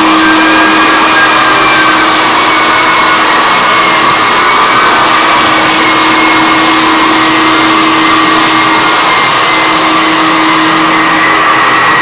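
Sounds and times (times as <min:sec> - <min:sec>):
floor sander motor whine: 0:00.0 - 0:12.0
vacuum rushing noise: 0:00.0 - 0:12.0.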